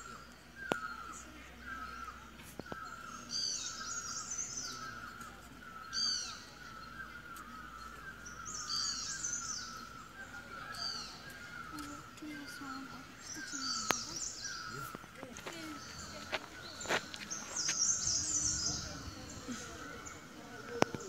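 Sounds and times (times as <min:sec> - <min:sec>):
high-pitched birdsong: 0:00.0 - 0:21.0
lower repeated bird chirps: 0:00.0 - 0:21.0.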